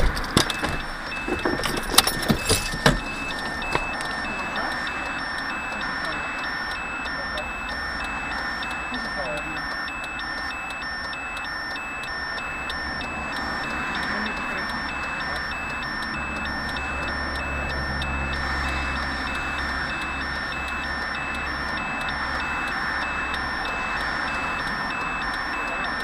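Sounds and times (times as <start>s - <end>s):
car cabin road noise: 0.0s - 26.0s
electronic warning beeps: 0.0s - 26.0s
low engine rumble: 0.0s - 26.0s.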